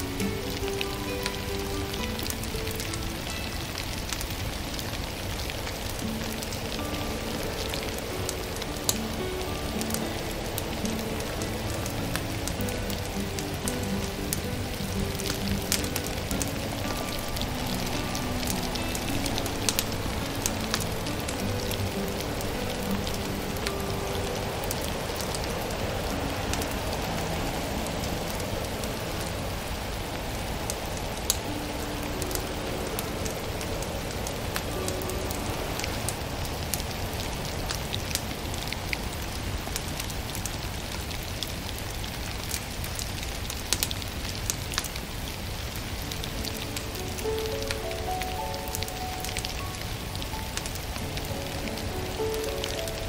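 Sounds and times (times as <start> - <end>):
faint soft music notes: 0.0 - 53.0
wood fire crackling: 0.0 - 53.0.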